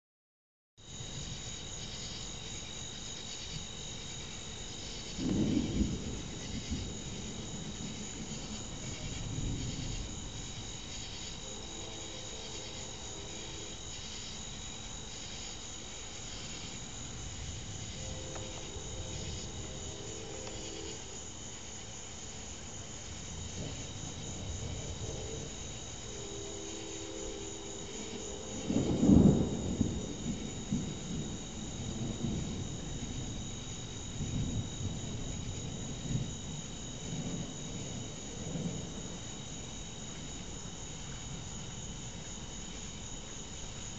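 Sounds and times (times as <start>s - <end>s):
crickets and insects trilling: 0.8s - 43.9s
distant thunder rumble: 3.5s - 43.9s.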